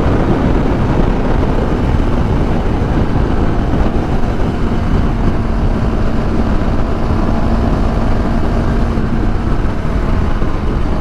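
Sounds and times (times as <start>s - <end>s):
motorcycle engine running: 0.0s - 11.0s
steady droning tone: 0.0s - 11.0s.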